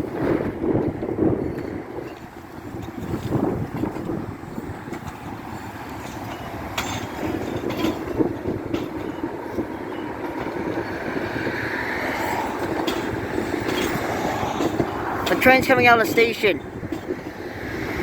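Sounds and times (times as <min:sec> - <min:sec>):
train rumbling past: 0:00.0 - 0:18.0
wheels clicking over rail joints: 0:00.0 - 0:18.0.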